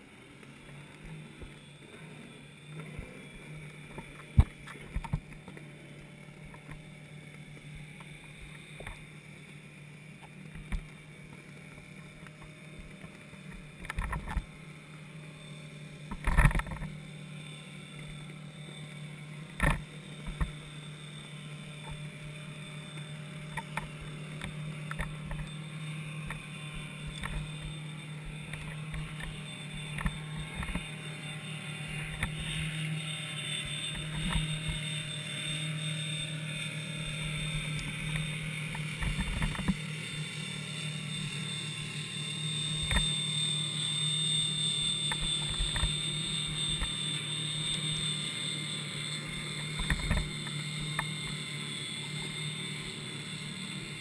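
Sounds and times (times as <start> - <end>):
low underwater hum: 0.0 - 54.0
thin high whine: 0.0 - 54.0.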